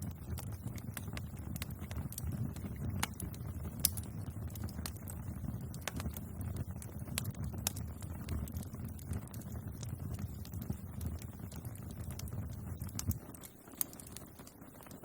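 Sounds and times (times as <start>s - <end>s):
bonfire crackling and popping: 0.0s - 15.0s
low rumble of flames: 0.0s - 15.0s.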